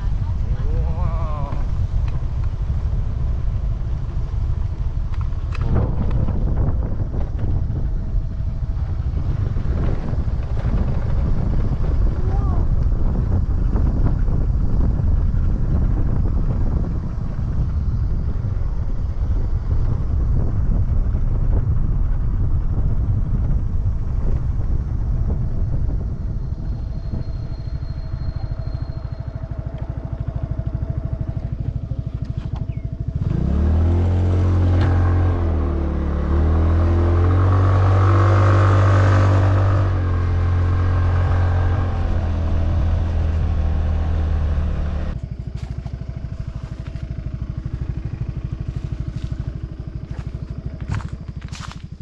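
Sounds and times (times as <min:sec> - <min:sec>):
motorcycle engine rumble: 0:00.0 - 0:52.0.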